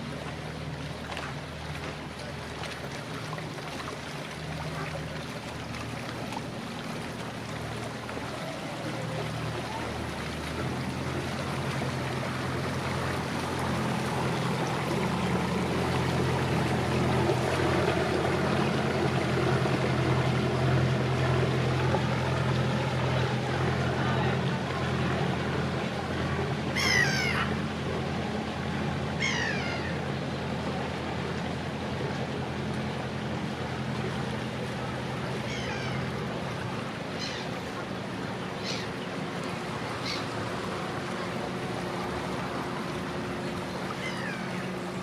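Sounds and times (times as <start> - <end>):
motor boat engine running: 0.0 - 45.0
water washing: 0.0 - 45.0.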